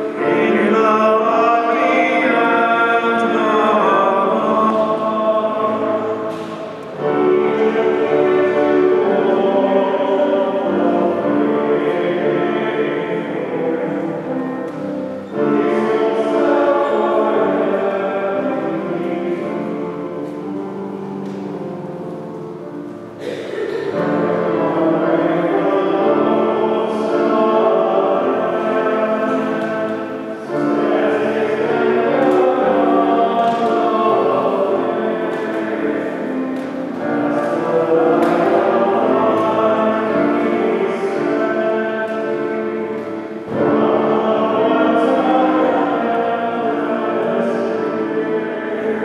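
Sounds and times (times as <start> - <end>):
church choir singing a hymn: 0.0 - 49.0.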